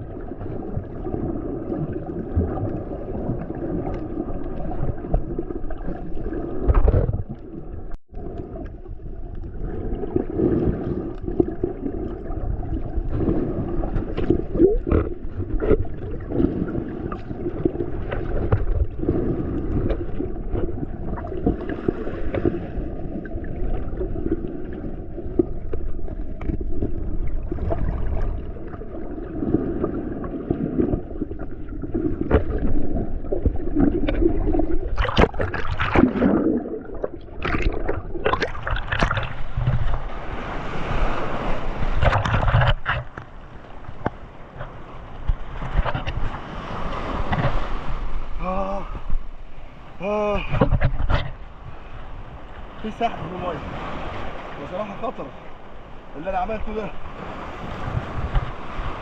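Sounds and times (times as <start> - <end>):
muffled water churning: 0.0 - 59.0.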